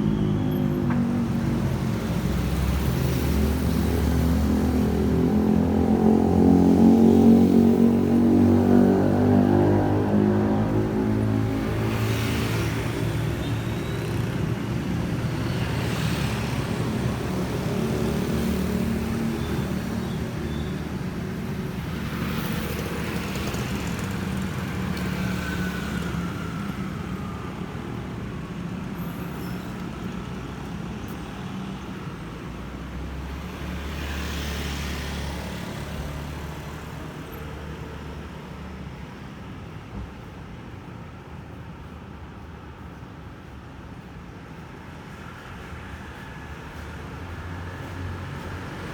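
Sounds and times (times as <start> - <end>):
road and wind noise: 0.0 - 48.9
surrounding traffic: 0.0 - 48.9.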